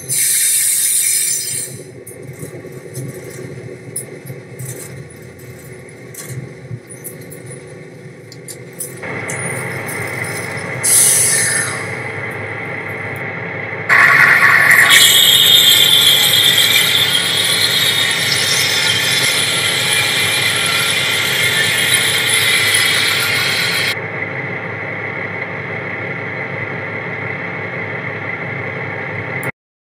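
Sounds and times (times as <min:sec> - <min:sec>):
engine drone: 0:00.0 - 0:29.5.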